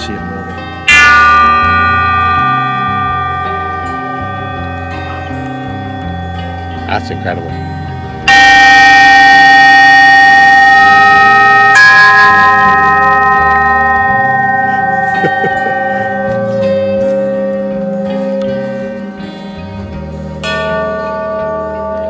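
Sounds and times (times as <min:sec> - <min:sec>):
metal chime tube ringing: 0:00.0 - 0:22.0.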